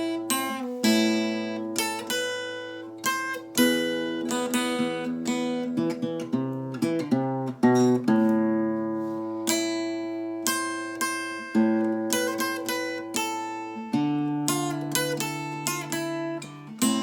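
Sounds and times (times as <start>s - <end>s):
guitar notes and chords ringing: 0.0s - 17.0s.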